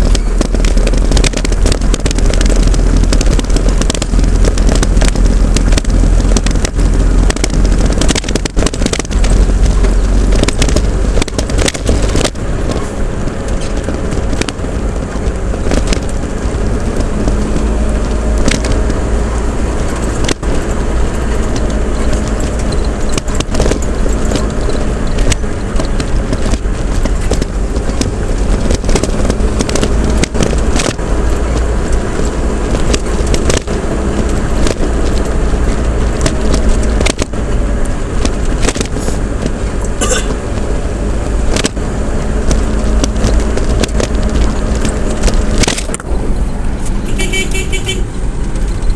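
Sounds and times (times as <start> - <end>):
clicks and rattles from bumps: 0.0 - 48.9
vehicle engine and road rumble: 0.0 - 48.9.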